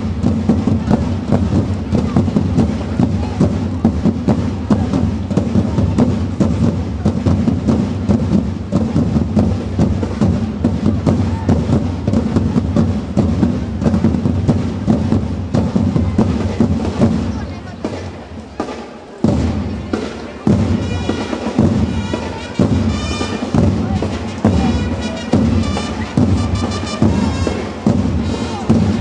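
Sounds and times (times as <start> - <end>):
drums beating rapid rhythm: 0.0 - 29.0.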